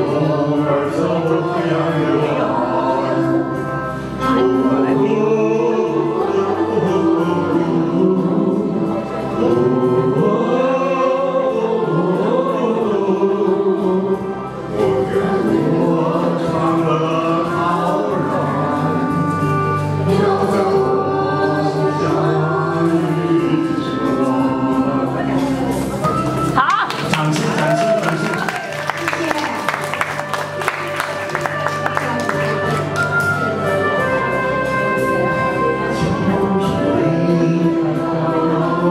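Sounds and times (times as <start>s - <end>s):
man and woman singing: 0.0s - 31.3s, 35.3s - 38.9s.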